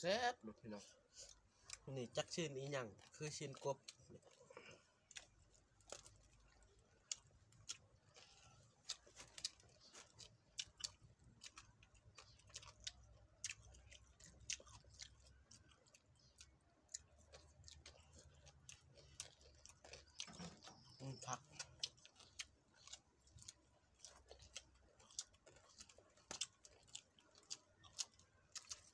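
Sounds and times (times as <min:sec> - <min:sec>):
crunchy chewing: 0:00.6 - 0:28.9.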